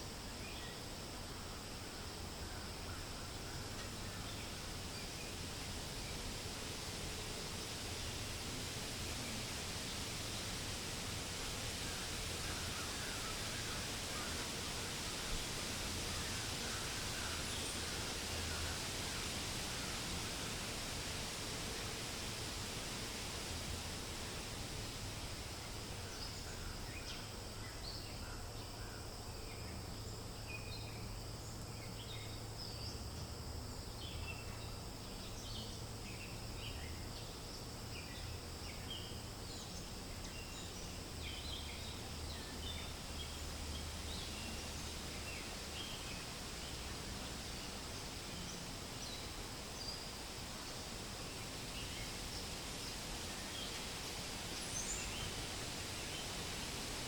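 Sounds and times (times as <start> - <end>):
wind in leaves: 0.0 - 57.0.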